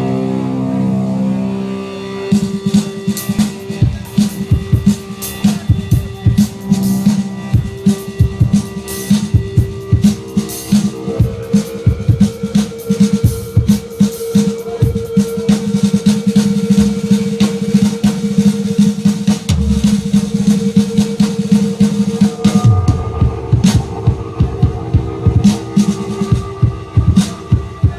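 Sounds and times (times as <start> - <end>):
held low instrument notes: 0.0 - 27.9
drum kit groove: 2.3 - 27.9.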